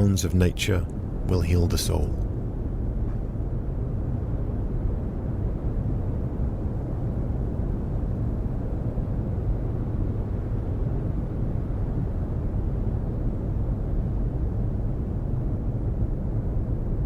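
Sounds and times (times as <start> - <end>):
distant ocean surf rumble: 0.0 - 17.0.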